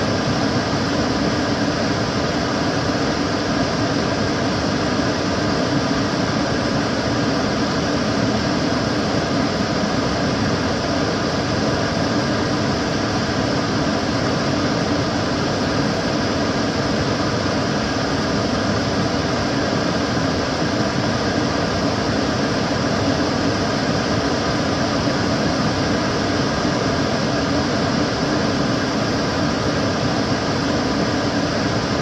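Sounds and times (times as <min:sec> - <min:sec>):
extractor fan running: 0:00.0 - 0:32.0.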